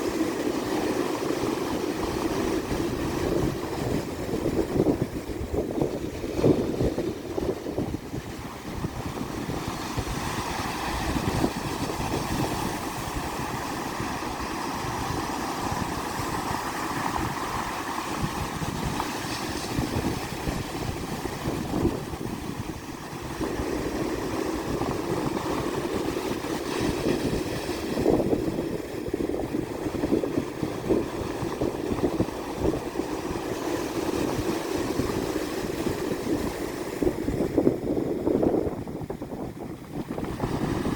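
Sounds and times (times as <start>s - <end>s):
waves washing onto shore: 0.0s - 40.9s.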